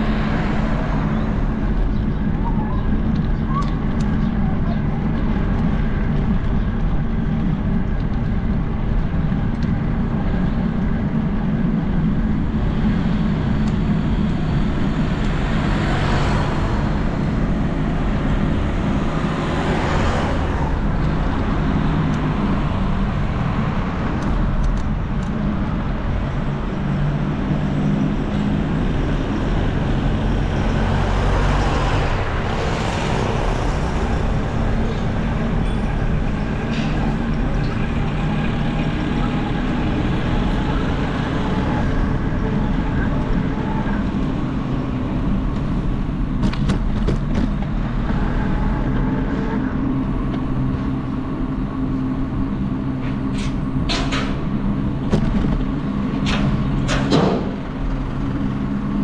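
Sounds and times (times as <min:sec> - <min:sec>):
traffic engine hum: 0:00.0 - 0:59.0
vehicles passing close: 0:00.0 - 0:59.0.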